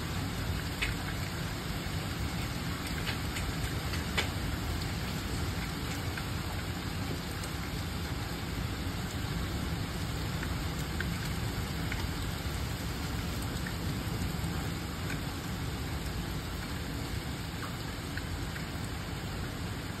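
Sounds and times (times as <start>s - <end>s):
hailstones ticking on hard surfaces: 0.0s - 20.0s
heavy rain and hail: 0.0s - 20.0s.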